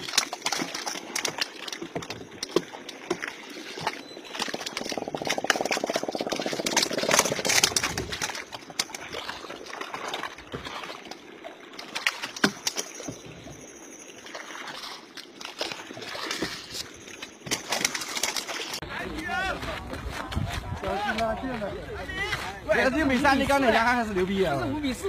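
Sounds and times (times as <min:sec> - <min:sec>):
water splashing against boat: 0:00.0 - 0:20.8.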